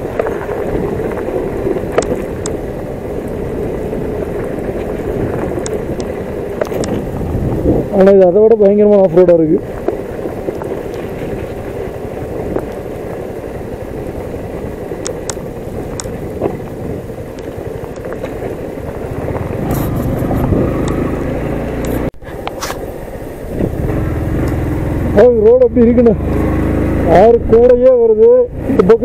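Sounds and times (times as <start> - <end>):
motorcycle engine running: 0.0 - 29.0
tyres rumbling on gravel: 0.0 - 29.0.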